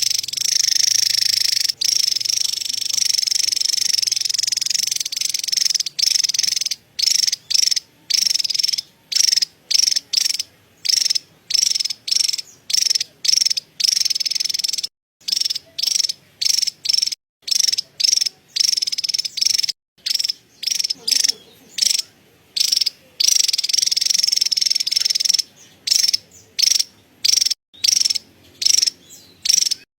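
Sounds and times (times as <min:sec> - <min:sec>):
bird rapid chattering call: 0:00.0 - 0:29.9.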